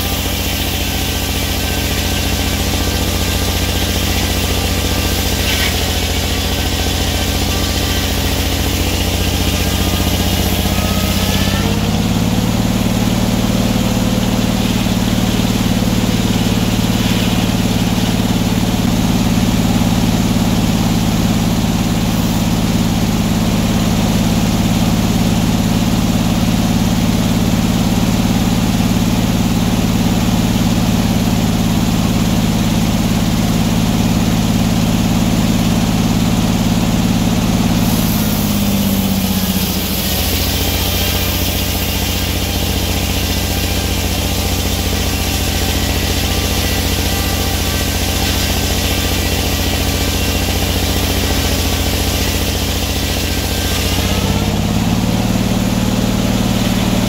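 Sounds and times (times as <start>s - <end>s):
circular saw cutting log: 0.0s - 57.0s.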